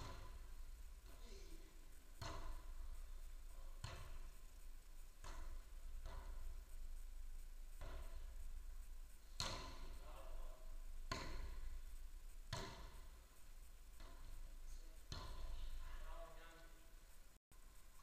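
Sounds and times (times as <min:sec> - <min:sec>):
ball thuds echoing in hall: 0:00.0 - 0:16.4.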